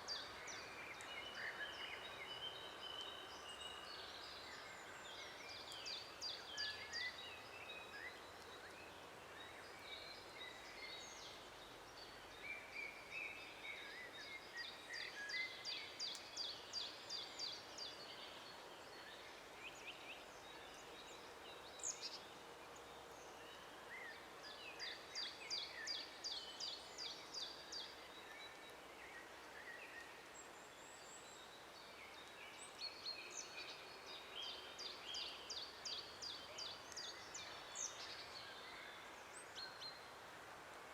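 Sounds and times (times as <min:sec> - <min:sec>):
birds chirping softly: 0:00.0 - 0:40.9
faint background hiss: 0:00.0 - 0:40.9.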